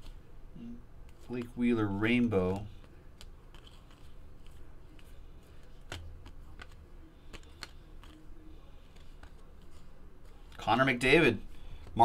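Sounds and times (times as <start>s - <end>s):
low steady hum: 0.0s - 12.0s
cards clicking and rustling: 1.0s - 11.0s.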